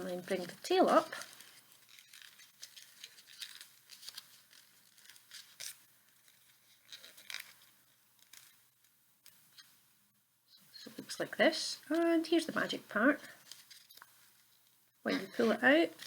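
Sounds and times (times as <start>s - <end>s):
paper rustling and creasing: 0.0s - 9.8s, 11.9s - 16.0s.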